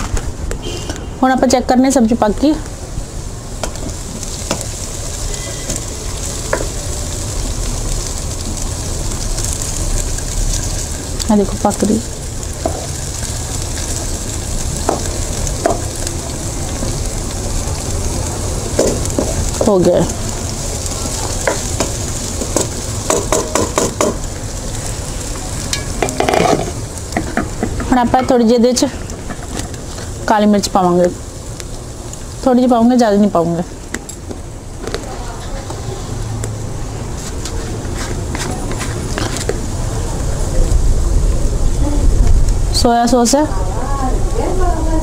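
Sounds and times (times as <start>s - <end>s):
vegetables sizzling in oil: 0.3s - 45.0s.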